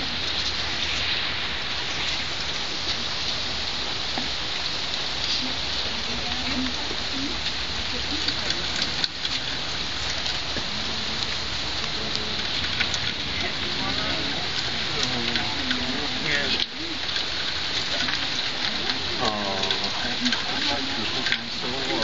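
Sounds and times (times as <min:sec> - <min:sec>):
steady rain falling: 0:00.0 - 0:22.0
low voices murmuring: 0:01.8 - 0:22.0.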